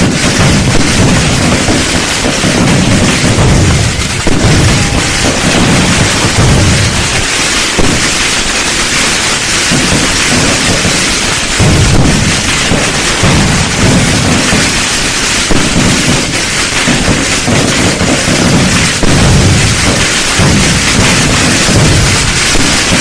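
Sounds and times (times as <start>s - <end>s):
deep fireworks booms: 0.0s - 23.0s
fireworks crackling: 0.0s - 23.0s.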